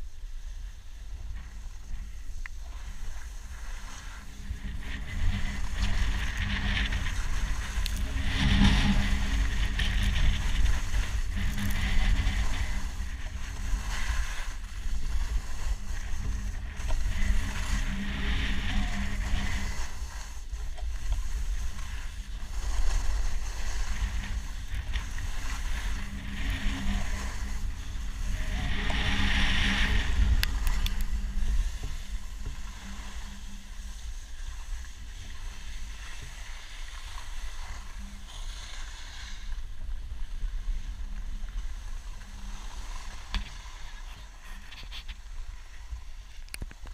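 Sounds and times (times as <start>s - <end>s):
skis scraping over snow: 0.0s - 46.9s
wind rumbling on microphone: 0.0s - 46.9s.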